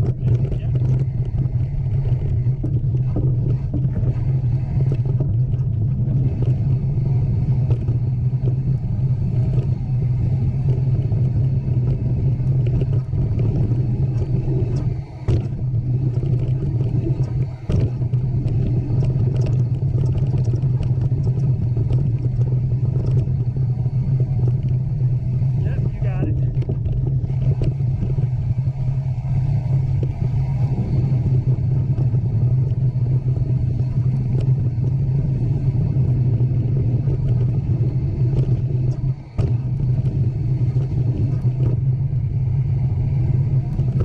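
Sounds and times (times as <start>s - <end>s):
bike clicks and rattles: 0.0s - 44.0s
wind rumble on microphone: 0.0s - 44.0s.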